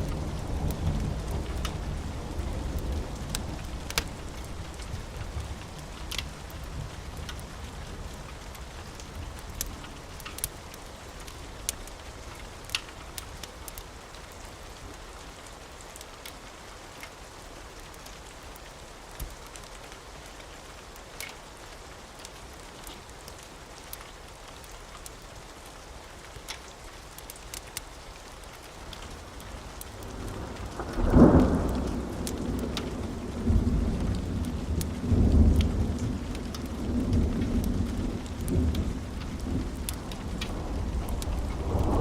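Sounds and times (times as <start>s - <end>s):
steady rain: 0.0s - 42.0s
wood fire crackling: 0.0s - 42.0s.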